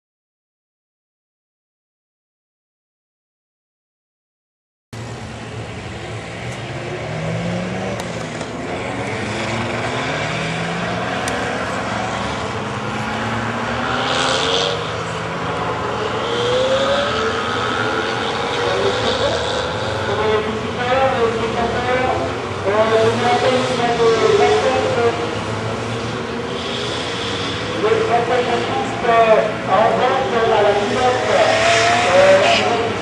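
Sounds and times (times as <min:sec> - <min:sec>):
distant racing cars accelerating: 0:05.0 - 0:33.0
wash of engine and track noise: 0:05.0 - 0:33.0.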